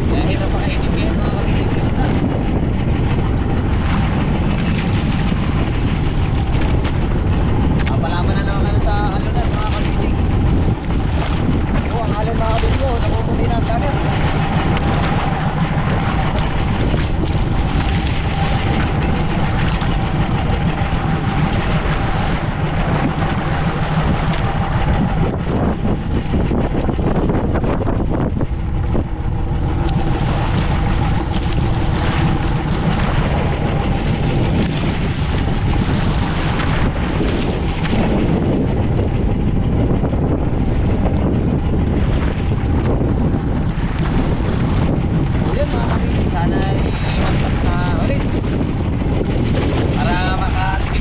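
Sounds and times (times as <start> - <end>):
boat engine droning: 0.0 - 51.0
wind buffeting microphone: 0.0 - 51.0.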